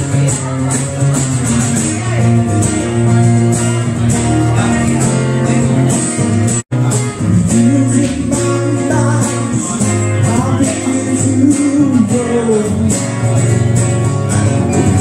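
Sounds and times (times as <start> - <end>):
blues band playing: 0.0 - 15.0
guitar: 0.0 - 15.0.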